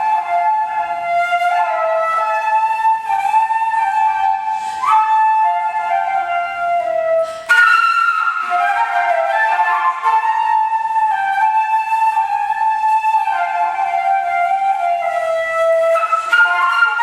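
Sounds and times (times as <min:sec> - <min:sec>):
slow solo woodwind melody: 0:00.0 - 0:17.0.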